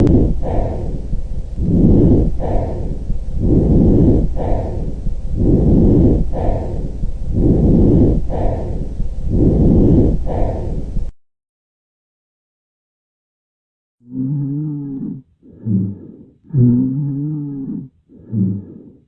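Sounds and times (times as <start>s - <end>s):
person breathing in and out: 0.0s - 11.2s, 14.0s - 19.0s.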